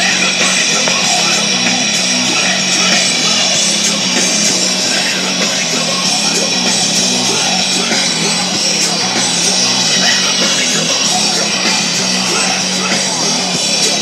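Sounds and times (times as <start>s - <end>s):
loud rock music: 0.0s - 14.0s
low bass line: 0.0s - 14.0s.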